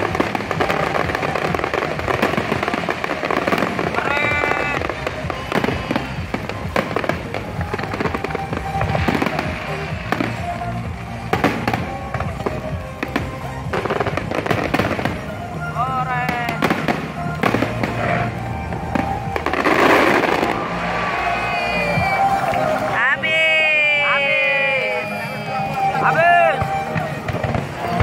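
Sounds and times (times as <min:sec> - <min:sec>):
fireworks bangs and crackles: 0:00.0 - 0:28.0
music playing: 0:00.0 - 0:28.0.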